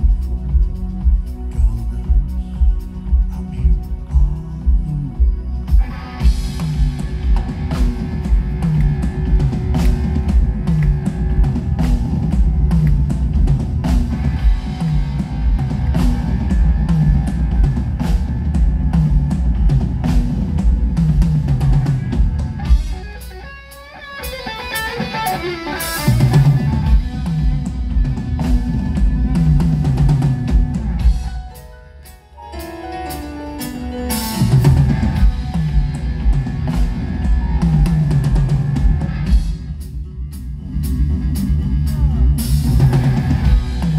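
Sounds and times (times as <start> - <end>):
bass: 0.0 - 43.9
drum kit beat: 0.0 - 43.9
electric guitar: 5.2 - 39.9, 40.6 - 43.9.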